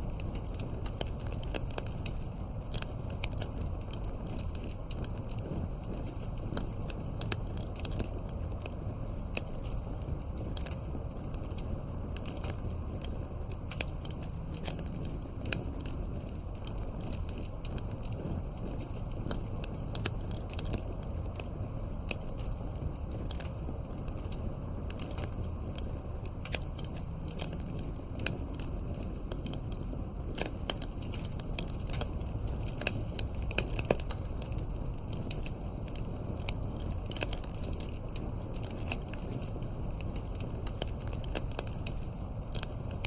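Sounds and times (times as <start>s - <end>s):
campfire crackling: 0.0s - 43.0s.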